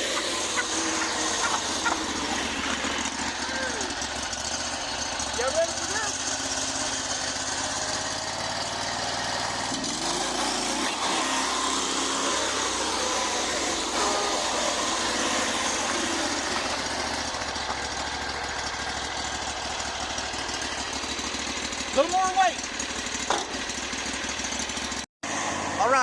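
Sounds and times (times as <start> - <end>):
small engine revving: 0.0 - 26.0.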